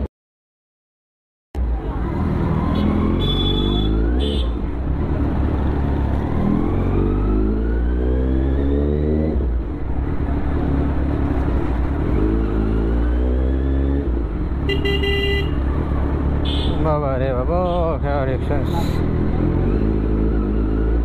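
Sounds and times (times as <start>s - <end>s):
motorcycle engine revving: 1.9s - 16.8s, 18.4s - 21.0s.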